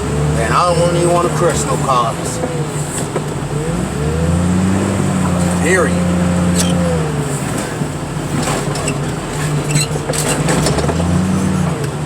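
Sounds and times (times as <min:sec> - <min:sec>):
heavy equipment engine droning: 0:00.0 - 0:12.0.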